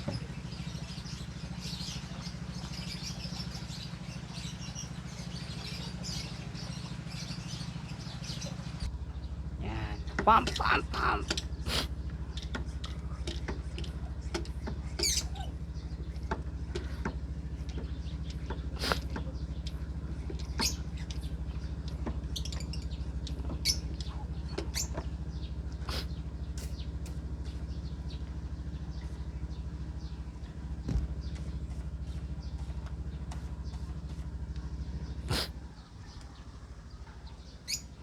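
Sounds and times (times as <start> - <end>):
lovebirds chirping: 0.0 - 38.0
steady low hum: 0.0 - 38.0.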